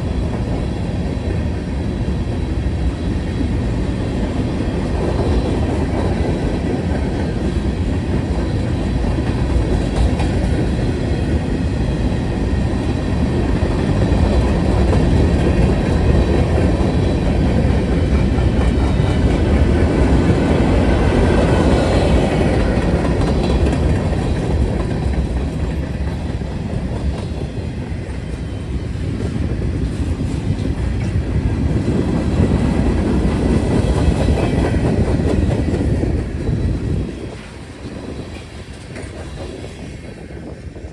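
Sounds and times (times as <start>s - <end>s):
freight train cars rumbling past: 0.0s - 40.9s
train wheel clatter: 2.2s - 40.9s.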